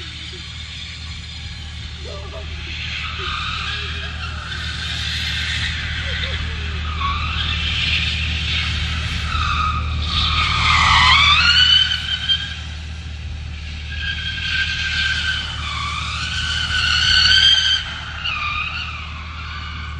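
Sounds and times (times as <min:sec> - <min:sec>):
car tyres squealing: 0:00.0 - 0:19.9.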